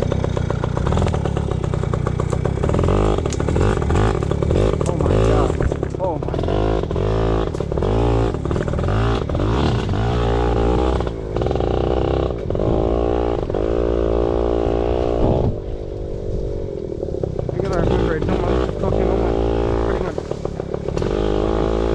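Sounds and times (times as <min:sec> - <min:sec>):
two-stroke engine revving: 0:00.0 - 0:21.9.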